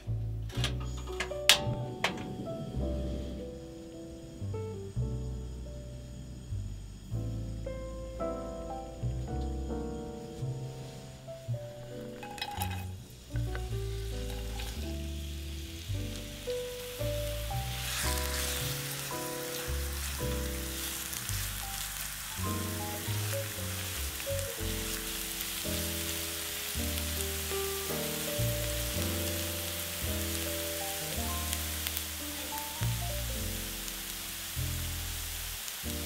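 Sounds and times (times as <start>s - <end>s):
food sizzling in a pan: 2.3s - 36.0s.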